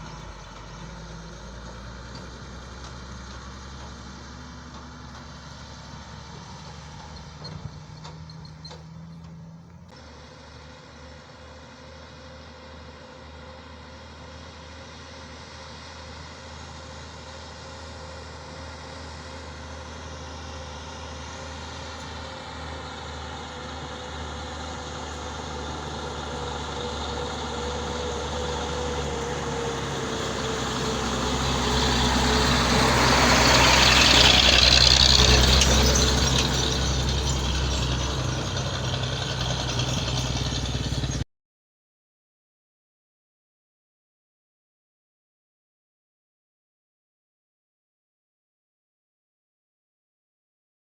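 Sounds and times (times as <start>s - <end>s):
heavy truck engine: 0.0s - 41.2s.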